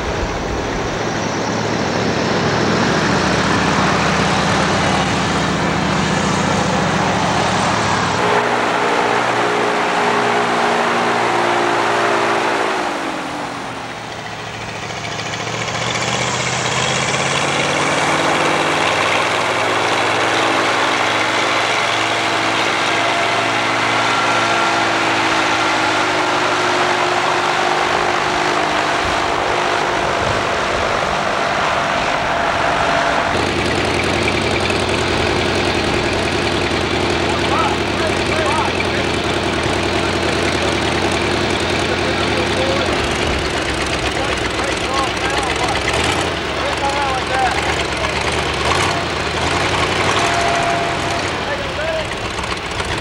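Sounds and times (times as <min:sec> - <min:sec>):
vehicle engine driving by: 0:00.0 - 0:53.0.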